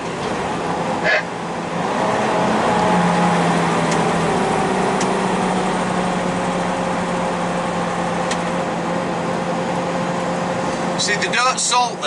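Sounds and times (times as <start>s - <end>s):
road noise: 0.0s - 12.0s
truck diesel engine drone: 0.0s - 12.0s.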